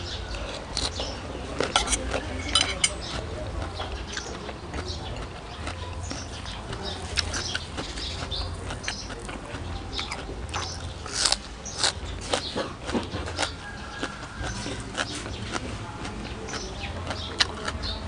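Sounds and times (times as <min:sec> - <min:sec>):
chewing raw greens: 0:00.0 - 0:18.0.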